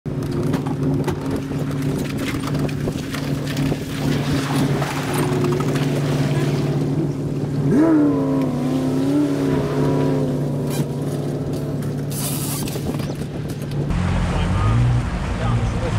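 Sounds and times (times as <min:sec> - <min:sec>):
engine humming: 0:00.1 - 0:15.9.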